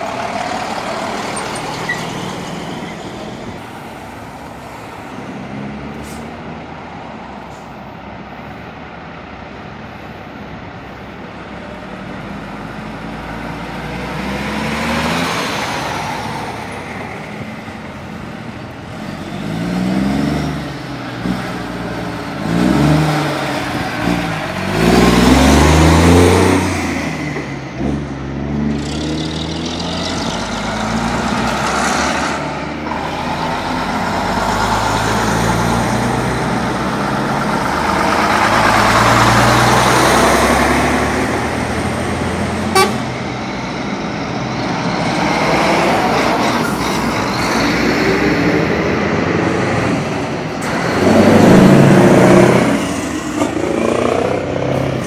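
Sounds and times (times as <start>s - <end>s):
diesel trucks accelerating past: 0.0s - 55.0s.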